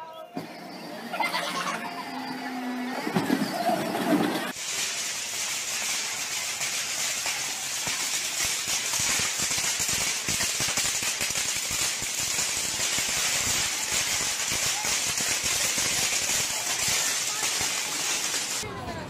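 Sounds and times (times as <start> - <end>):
fireworks fizzing and crackling: 0.4 - 18.7.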